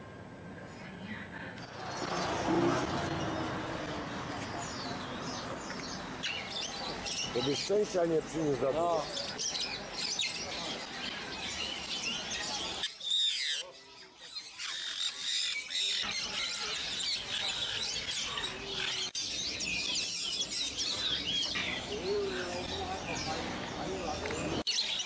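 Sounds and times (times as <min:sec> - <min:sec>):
small birds chirping: 0:00.6 - 0:25.0.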